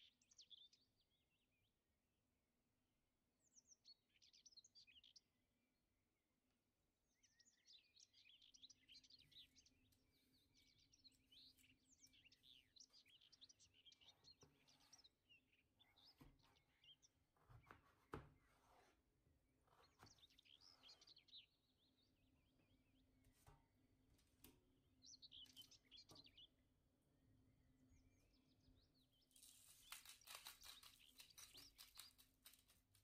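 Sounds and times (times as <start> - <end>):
small birds chirping: 0.0 - 2.3, 3.0 - 33.0.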